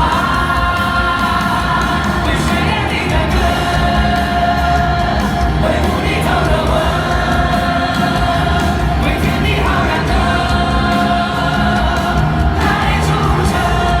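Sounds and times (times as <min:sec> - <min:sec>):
live band playing: 0:00.0 - 0:14.0
singing with vibrato: 0:00.0 - 0:14.0.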